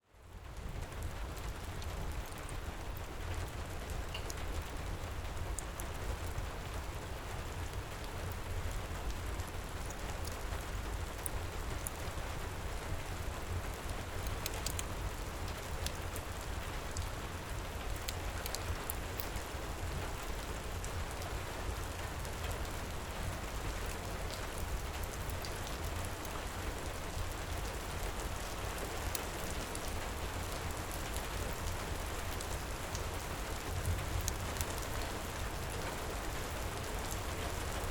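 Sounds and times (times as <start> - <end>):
heavy rain pouring: 0.4 - 37.9
wood fire crackling: 0.4 - 37.9.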